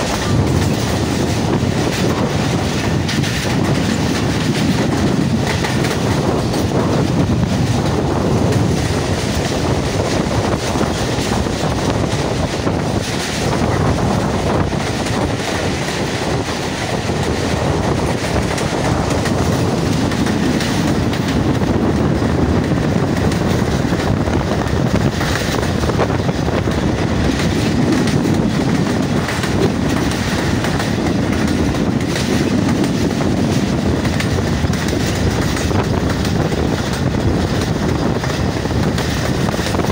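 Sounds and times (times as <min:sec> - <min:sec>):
rhythmic rail clicks: 0:00.0 - 0:39.9
train wheels rumbling on track: 0:00.0 - 0:39.9.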